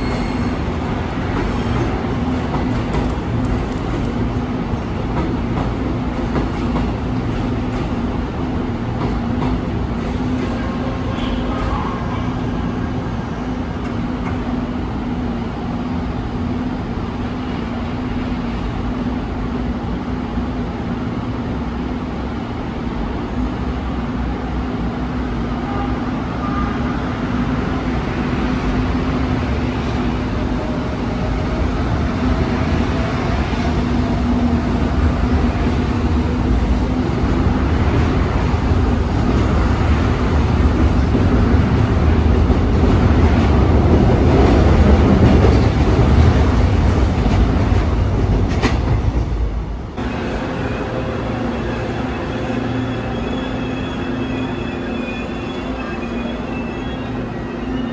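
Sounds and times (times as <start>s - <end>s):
electric train rumble: 0.0s - 57.9s.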